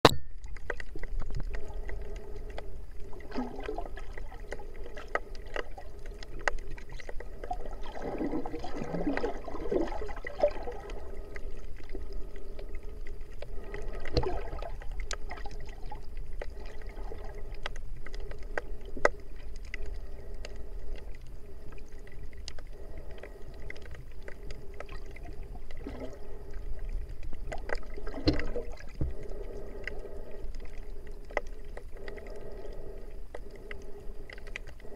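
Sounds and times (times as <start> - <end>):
sharp underwater clicks: 0.0 - 34.9
underwater water rumble: 0.2 - 34.9
gurgling water swirls: 0.4 - 34.9.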